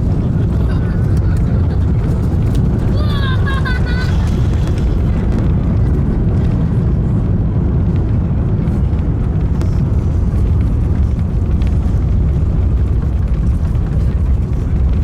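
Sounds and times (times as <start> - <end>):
airplane rumbling on runway: 0.0 - 15.0.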